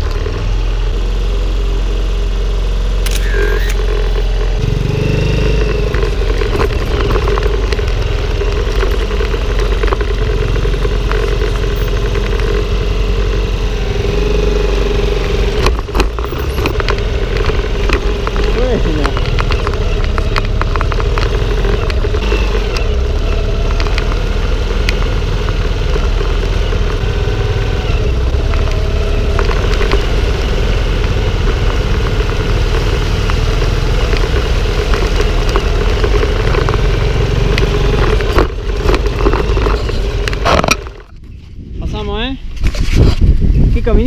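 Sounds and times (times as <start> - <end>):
motorcycle engine running: 0.0 - 44.0
wind rumble on microphone: 5.6 - 44.0.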